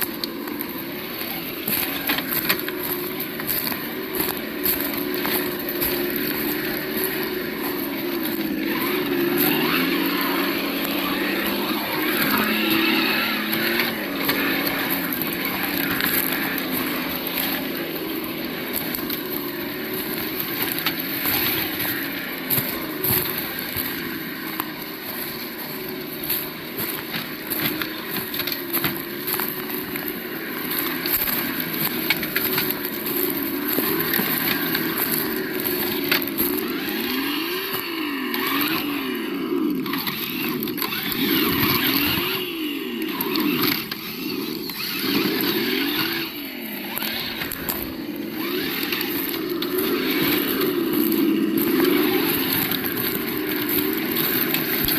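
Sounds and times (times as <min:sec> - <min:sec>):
simulated engine revving: 0:00.0 - 0:54.9
toy truck running gear rattle: 0:00.0 - 0:54.9.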